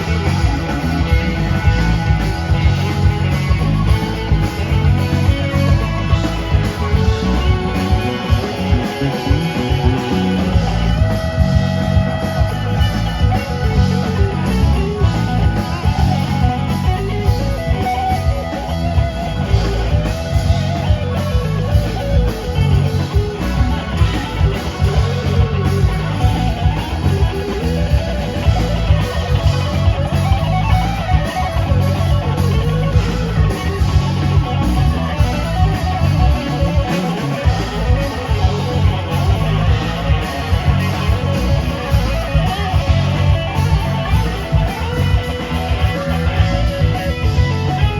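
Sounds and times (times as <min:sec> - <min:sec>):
electric guitar: 0:00.0 - 0:47.9
live band playing: 0:00.0 - 0:47.9.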